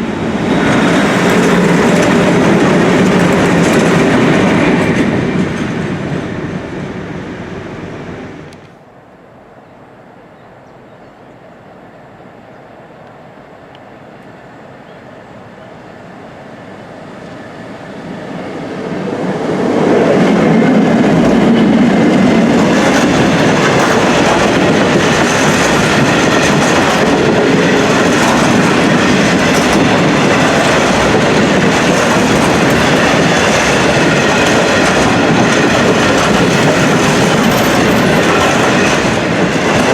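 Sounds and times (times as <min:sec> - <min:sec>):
train running past: 0:00.0 - 0:39.9.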